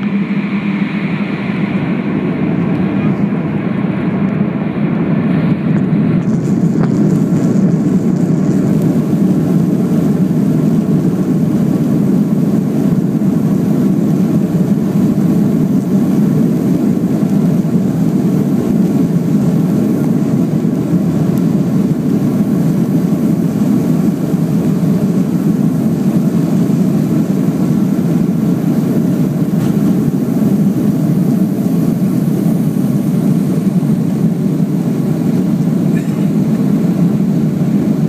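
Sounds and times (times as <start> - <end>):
jet engines and airflow in cabin: 0.0 - 38.0.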